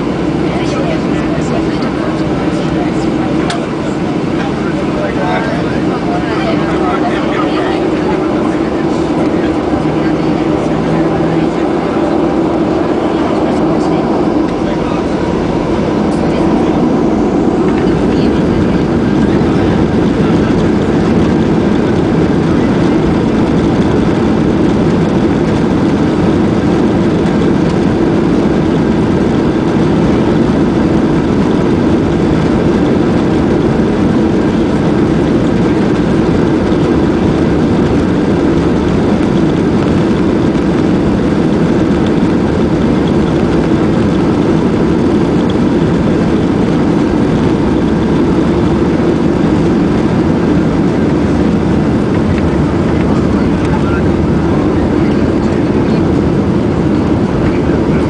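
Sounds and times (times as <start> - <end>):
jet engine and cabin noise: 0.0 - 58.0.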